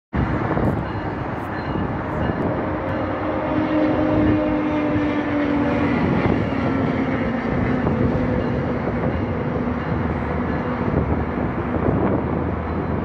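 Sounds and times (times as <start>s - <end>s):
low engine drone: 0.2s - 12.7s
train rumbling: 0.2s - 13.0s.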